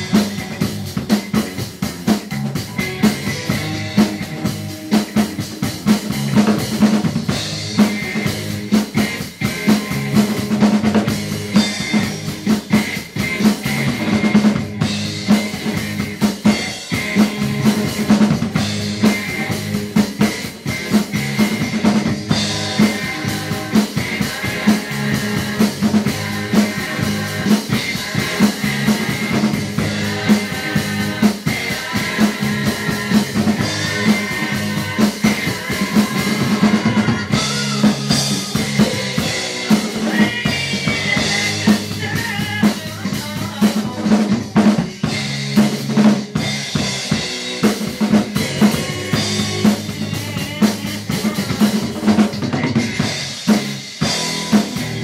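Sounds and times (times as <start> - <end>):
drum kit playing: 0.0 - 55.0
hard rock music recording: 0.0 - 55.0.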